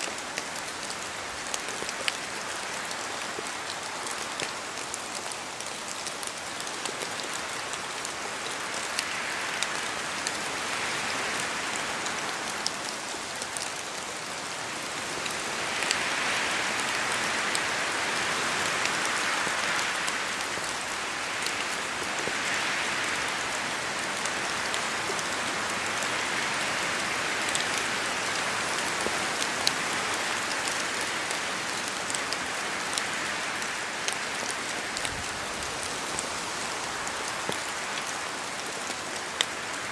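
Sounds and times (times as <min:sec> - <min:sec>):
steady rain in forest: 0:00.0 - 0:39.9
wind gusts through trees: 0:00.0 - 0:39.9.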